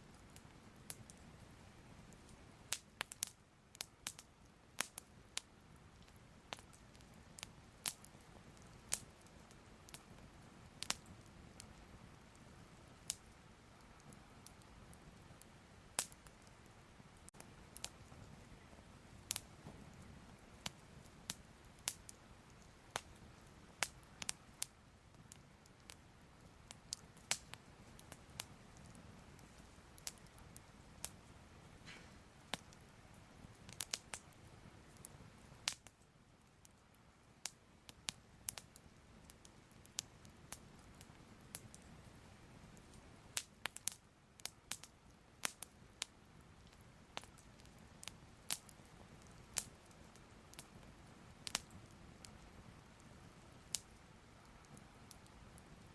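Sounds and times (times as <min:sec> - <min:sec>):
fire popping and crackling: 0:00.0 - 0:55.9.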